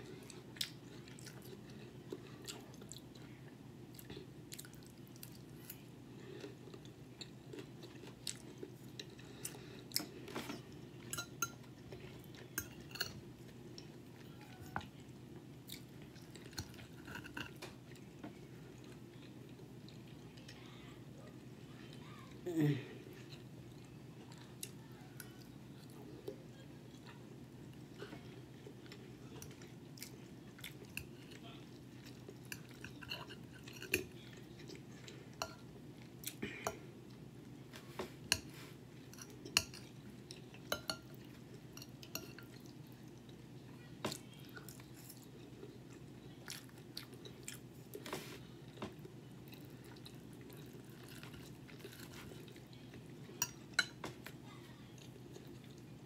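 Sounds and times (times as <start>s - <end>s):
chewing food: 0.1s - 20.7s, 23.1s - 56.0s.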